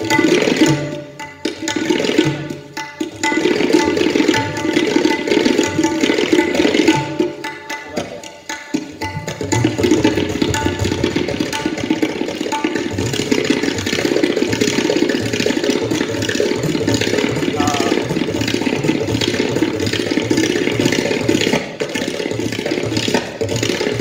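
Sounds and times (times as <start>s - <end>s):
tabla playing: 0.0s - 24.0s.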